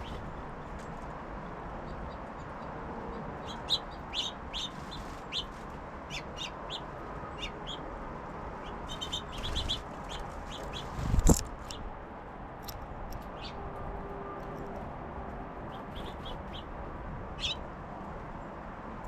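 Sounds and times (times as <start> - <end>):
songbirds chirping: 0.0 - 13.7, 15.7 - 18.6.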